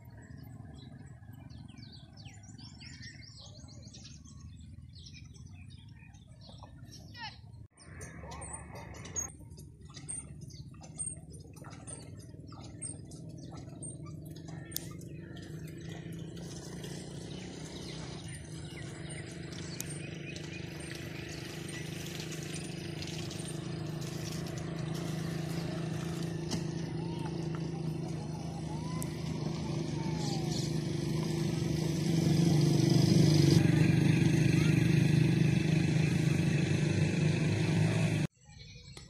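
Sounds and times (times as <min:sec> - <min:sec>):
low engine hum: 0:00.0 - 0:38.3.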